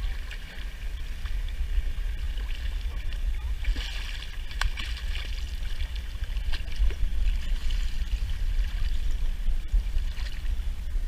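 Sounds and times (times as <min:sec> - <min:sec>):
steady low rumble: 0:00.0 - 0:11.0
water splashing and trickling: 0:00.0 - 0:11.0.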